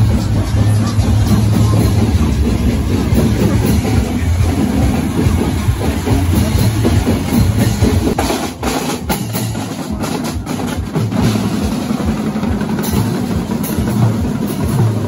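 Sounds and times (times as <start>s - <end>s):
bass drums: 0.0s - 15.0s
snare drums: 0.0s - 15.0s.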